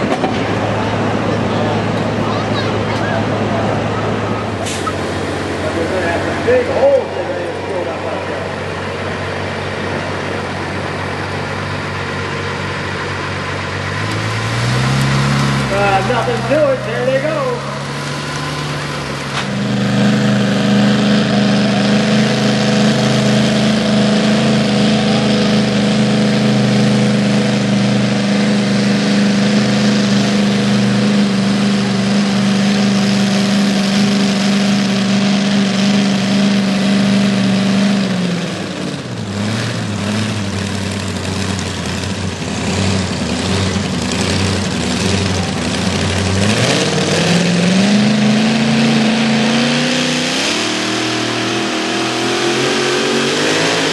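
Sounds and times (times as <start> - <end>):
truck engine revving under load: 0.0 - 53.9.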